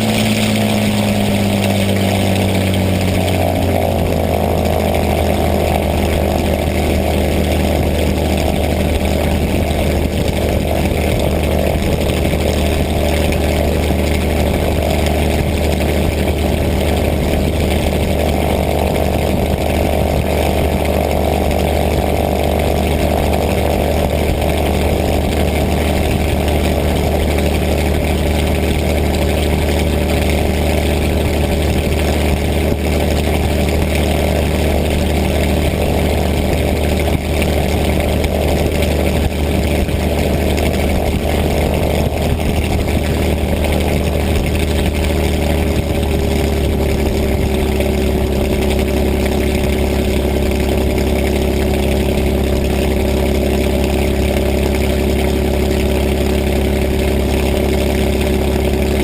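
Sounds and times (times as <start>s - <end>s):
piston aircraft engine running: 0.0s - 59.0s.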